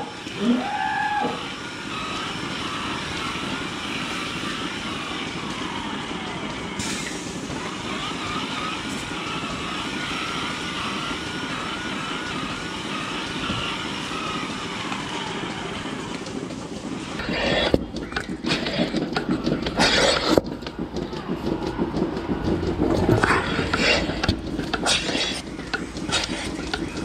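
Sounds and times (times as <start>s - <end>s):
milking machinery hum and hiss: 0.0s - 27.0s.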